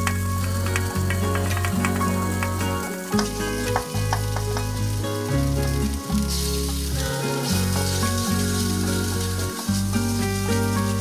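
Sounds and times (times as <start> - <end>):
background music: 0.0 - 11.0
food sizzling in a wok: 0.0 - 11.0.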